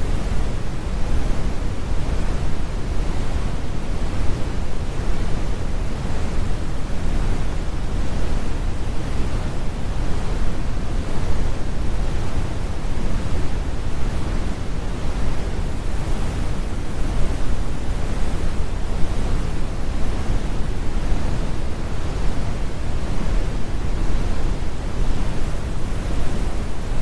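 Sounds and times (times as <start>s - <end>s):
brown noise rumble: 0.0s - 27.0s.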